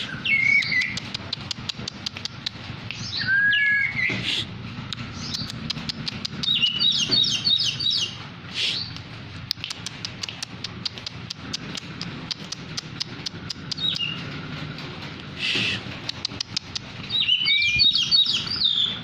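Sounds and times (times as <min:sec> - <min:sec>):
bird chirping: 0:00.0 - 0:04.4, 0:05.0 - 0:14.4, 0:15.4 - 0:19.0
bird sharp ticking calls: 0:00.0 - 0:14.4, 0:15.2 - 0:19.0.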